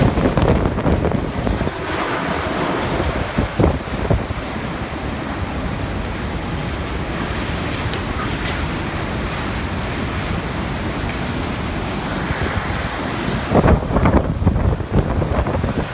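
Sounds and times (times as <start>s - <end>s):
strong wind rushing: 0.0s - 15.9s
wind buffeting microphone: 0.0s - 15.9s.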